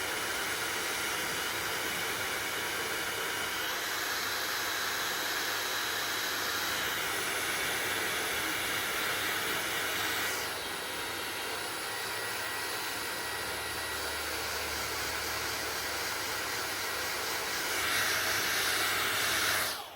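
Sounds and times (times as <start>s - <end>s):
hair dryer blowing: 0.0s - 19.9s.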